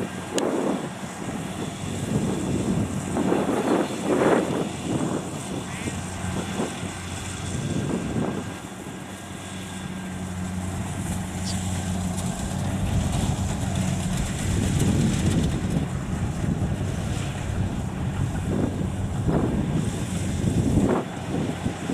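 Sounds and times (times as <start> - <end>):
diesel engine humming: 0.0 - 21.9.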